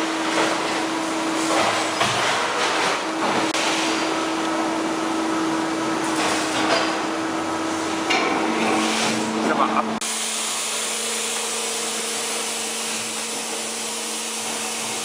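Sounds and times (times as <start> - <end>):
punching machine humming: 0.0 - 15.0.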